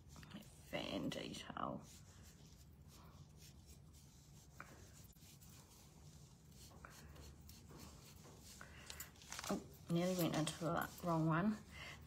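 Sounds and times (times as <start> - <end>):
paintbrush scratching: 0.0 - 11.7.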